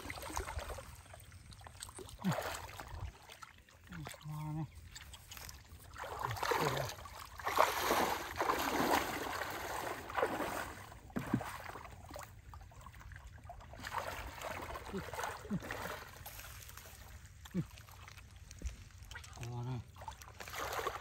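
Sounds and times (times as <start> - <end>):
muddy water sloshing and splashing: 0.0 - 21.0.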